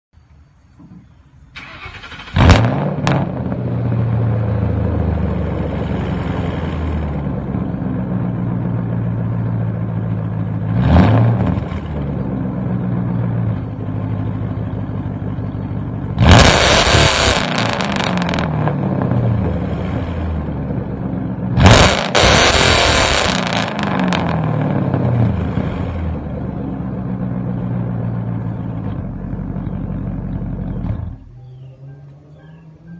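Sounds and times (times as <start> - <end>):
car engine idling and revving: 1.6 - 32.9.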